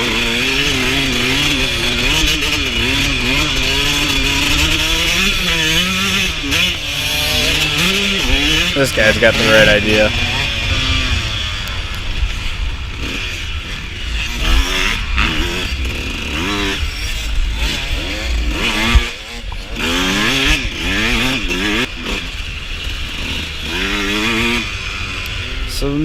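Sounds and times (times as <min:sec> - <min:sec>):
dirt bike engine revving: 0:00.0 - 0:26.0
wind rumble on microphone: 0:00.0 - 0:26.0.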